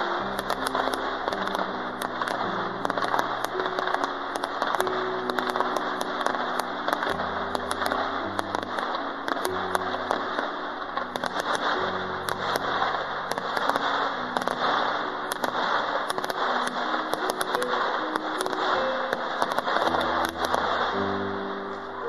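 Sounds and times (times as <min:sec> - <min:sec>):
fireworks crackling and popping: 0:00.0 - 0:22.0
music with slow low notes: 0:00.0 - 0:22.0.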